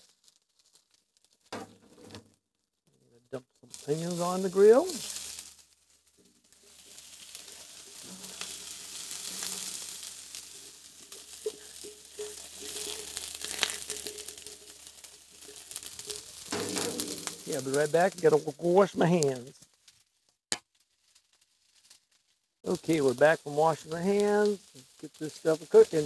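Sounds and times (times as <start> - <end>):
meat and onions sizzling on griddle: 3.7 - 20.0, 21.0 - 26.0.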